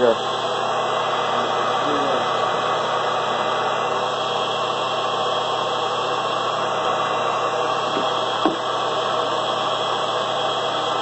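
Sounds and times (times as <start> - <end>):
electric pump humming: 0.0 - 11.0.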